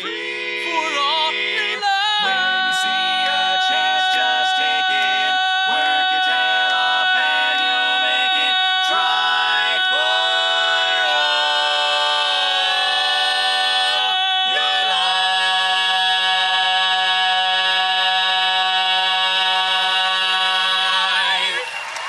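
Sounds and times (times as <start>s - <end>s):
male quartet singing a cappella: 0.0s - 21.7s.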